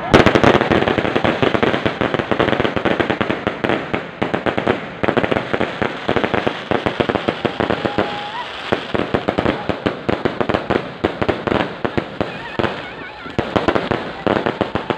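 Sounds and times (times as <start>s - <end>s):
fireworks bangs and crackles: 0.0s - 14.9s.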